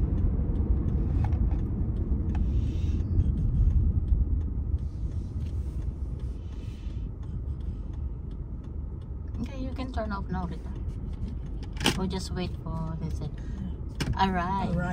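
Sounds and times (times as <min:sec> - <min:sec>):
car engine and tyre rumble: 0:00.0 - 0:14.9.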